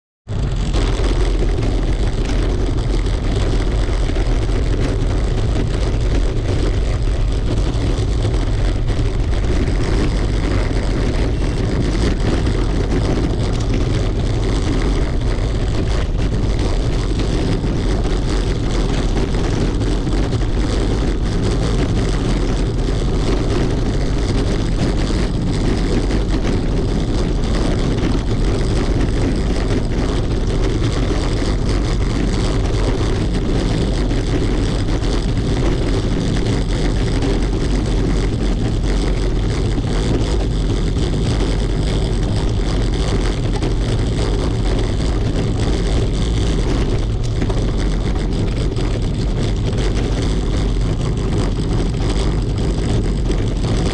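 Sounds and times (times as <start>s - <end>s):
bicycle rattling over cobblestones: 0.3s - 53.9s.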